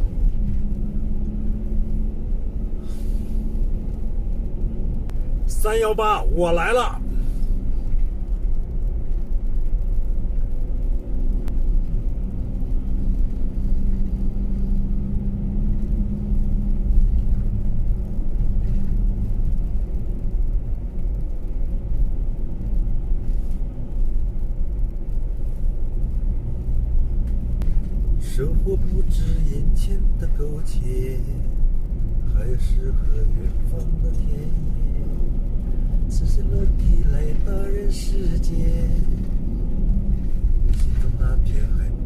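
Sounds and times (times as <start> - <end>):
vehicle engine and road noise: 0.0 - 42.0.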